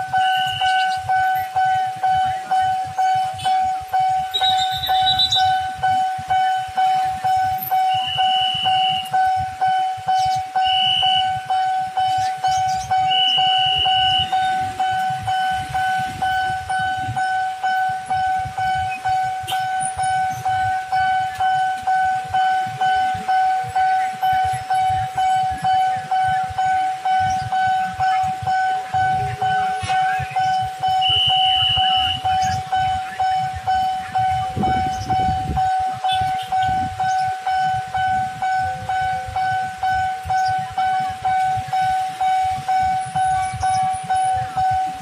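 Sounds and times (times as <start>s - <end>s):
level-crossing warning bell: 0.0s - 45.0s
short high-pitched beeps: 0.0s - 45.0s.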